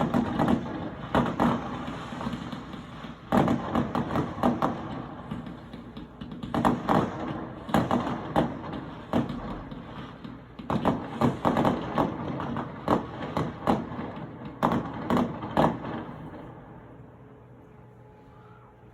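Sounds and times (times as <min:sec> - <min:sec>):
fireworks exploding: 0:00.0 - 0:16.8.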